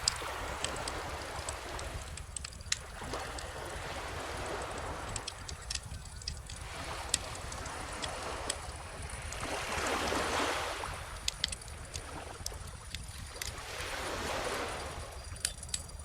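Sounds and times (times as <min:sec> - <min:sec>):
ocean wave washing ashore: 0:00.0 - 0:12.6, 0:13.3 - 0:15.8
bonfire crackling: 0:00.0 - 0:14.3, 0:15.0 - 0:16.0.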